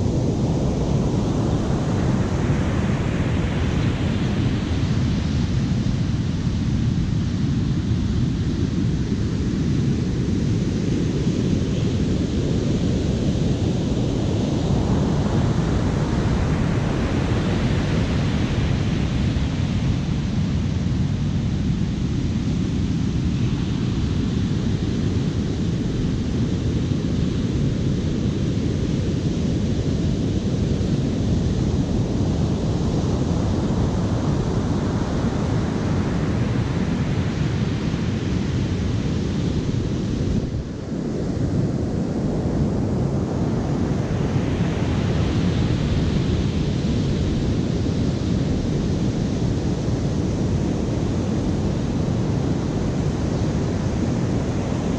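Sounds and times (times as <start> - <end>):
wind rumbling on microphone: 0.0 - 54.9.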